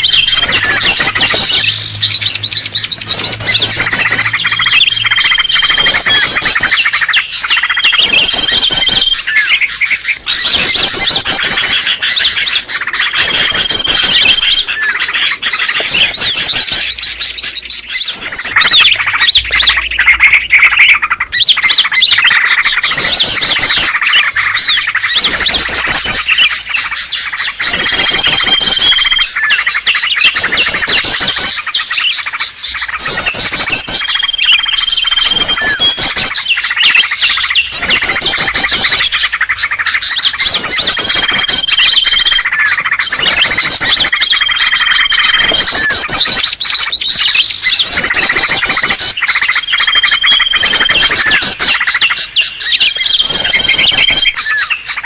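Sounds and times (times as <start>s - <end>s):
held bird whistle: 0.0s - 55.0s
leafbirds trilling and chirping: 0.0s - 55.0s.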